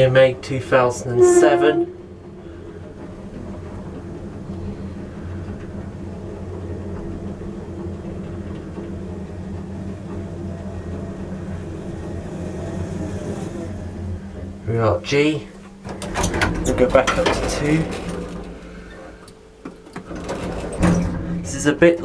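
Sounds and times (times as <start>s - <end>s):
lift humming in motion: 0.0s - 22.0s.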